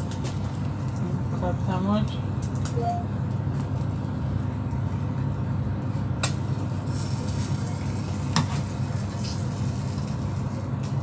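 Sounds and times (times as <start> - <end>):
kitchen equipment humming: 0.0 - 11.0.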